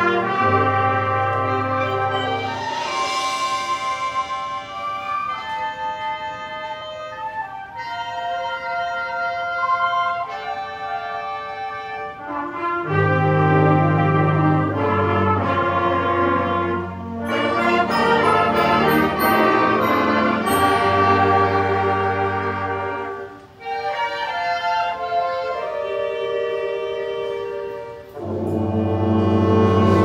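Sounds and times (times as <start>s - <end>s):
concert band playing: 0.0s - 30.0s
low brass: 0.0s - 30.0s.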